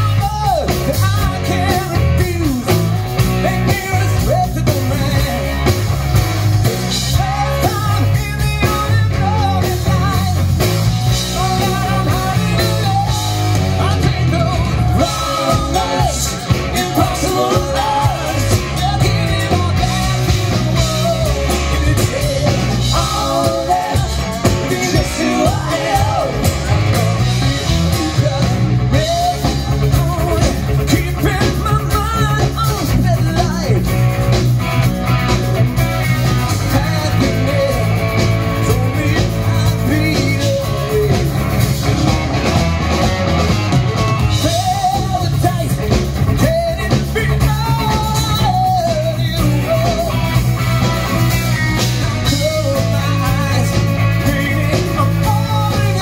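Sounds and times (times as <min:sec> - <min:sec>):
person singing: 0:00.0 - 0:05.8, 0:06.6 - 0:34.0, 0:36.2 - 0:41.7, 0:44.3 - 0:50.6, 0:51.8 - 0:56.0
live rock band playing: 0:00.0 - 0:56.0.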